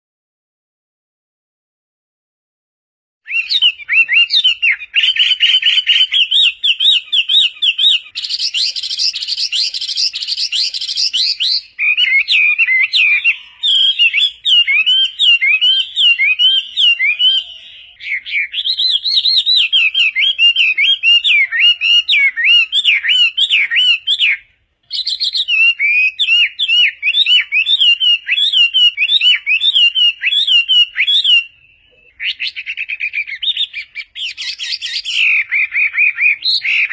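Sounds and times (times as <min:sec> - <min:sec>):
bird singing whistled notes: 0:03.3 - 0:36.9.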